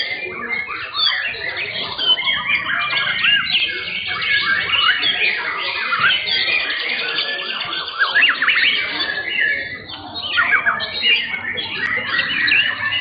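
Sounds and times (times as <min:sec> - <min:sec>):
chorus of birds singing: 0:00.0 - 0:13.0.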